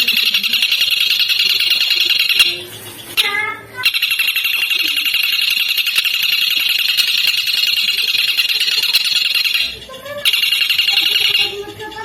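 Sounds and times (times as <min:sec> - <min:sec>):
songbird trilling: 0:00.0 - 0:12.0.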